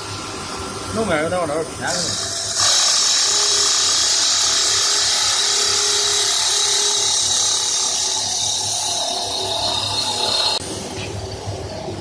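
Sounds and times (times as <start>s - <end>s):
lathe cutting hiss: 0.0s - 11.3s.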